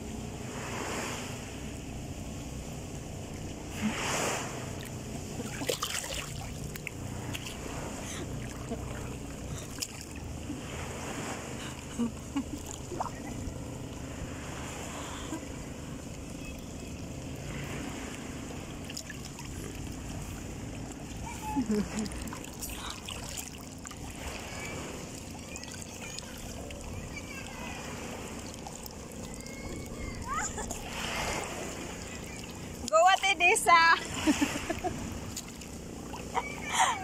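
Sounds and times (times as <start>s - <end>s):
low rumble of wind and surf: 0.0s - 37.0s
water lapping and splashing: 0.0s - 37.0s.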